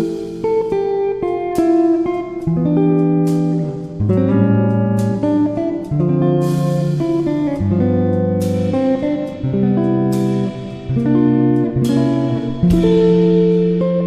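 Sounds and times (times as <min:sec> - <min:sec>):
guitar-led background music: 0:00.0 - 0:14.0.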